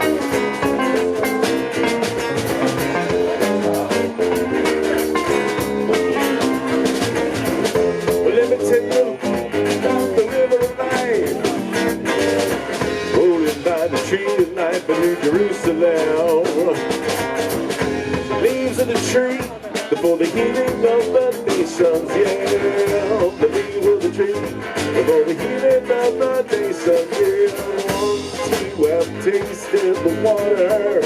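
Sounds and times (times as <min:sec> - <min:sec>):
lead guitar: 0:00.0 - 0:31.0
live band playing: 0:00.0 - 0:31.0.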